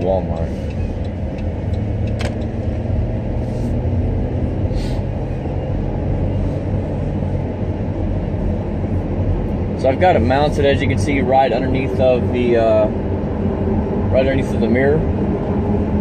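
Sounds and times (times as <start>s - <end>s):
engine and road hum: 0.0s - 16.0s.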